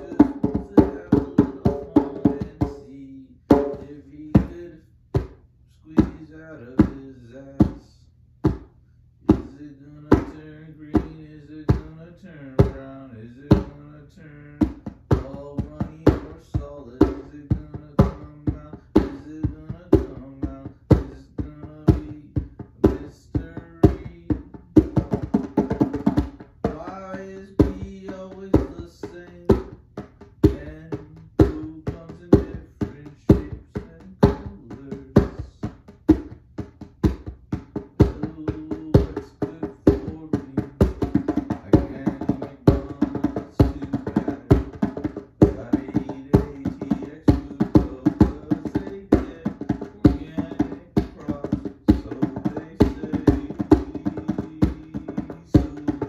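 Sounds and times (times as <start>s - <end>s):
djembe drumming: 0.0s - 2.9s, 3.5s - 4.6s, 8.4s - 8.7s, 9.3s - 12.0s, 13.5s - 13.8s, 14.5s - 56.0s.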